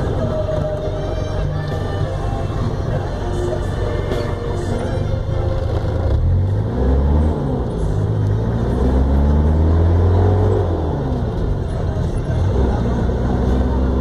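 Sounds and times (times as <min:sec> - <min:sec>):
van engine accelerating: 0:00.0 - 0:14.0.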